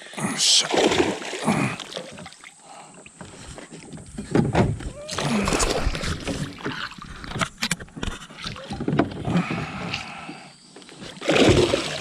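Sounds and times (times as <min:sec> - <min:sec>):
water splashing and sloshing: 0:00.4 - 0:12.0.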